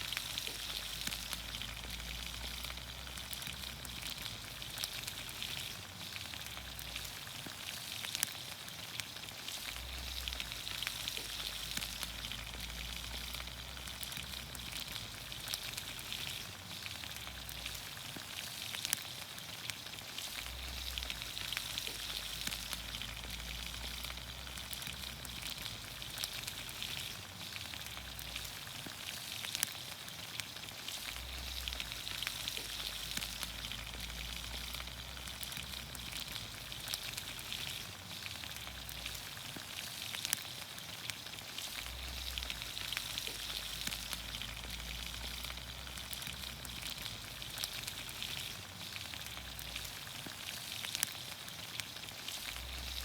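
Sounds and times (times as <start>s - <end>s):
vegetables sizzling in oil: 0.0s - 53.0s.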